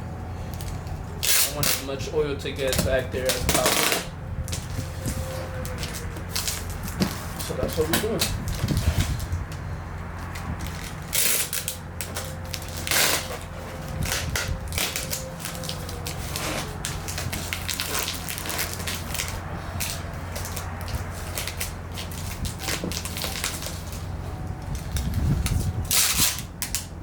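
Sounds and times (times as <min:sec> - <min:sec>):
steady low rumble: 0:00.0 - 0:27.0
packing tape ripping off roll: 0:00.6 - 0:01.9, 0:02.6 - 0:09.4, 0:10.3 - 0:26.9.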